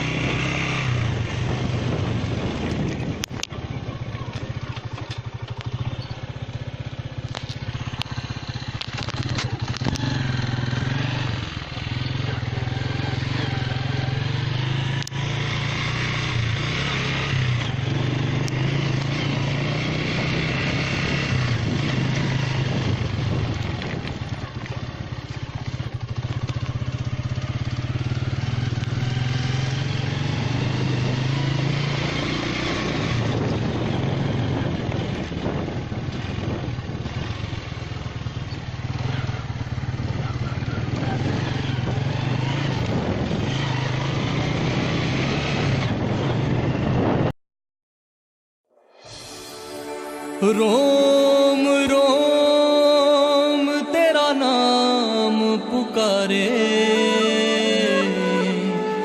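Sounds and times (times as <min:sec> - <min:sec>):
vehicle engine drone: 0:00.0 - 0:47.3, 0:49.1 - 0:59.0
road and wind noise: 0:00.0 - 0:47.4, 0:50.7 - 0:59.0.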